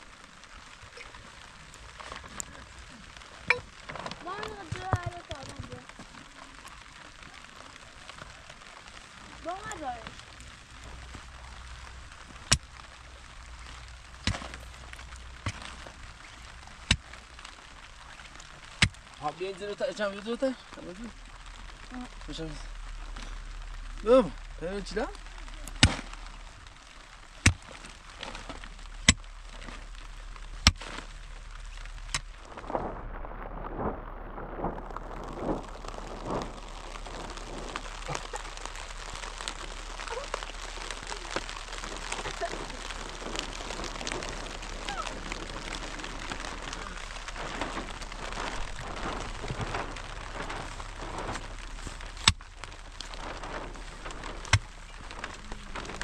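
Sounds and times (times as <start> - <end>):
steady rain on a surface: 0.0 - 56.0.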